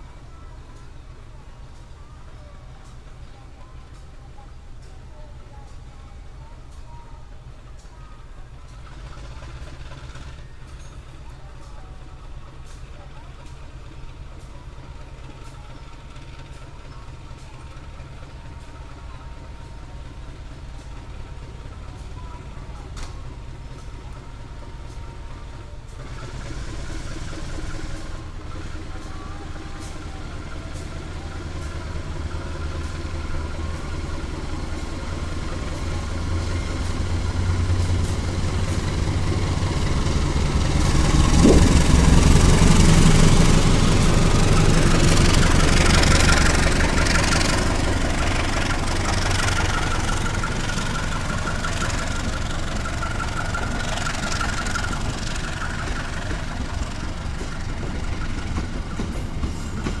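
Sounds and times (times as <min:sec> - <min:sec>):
locomotive engine rumbling: 0:00.0 - 1:00.0
train wheels on rails: 0:00.0 - 1:00.0.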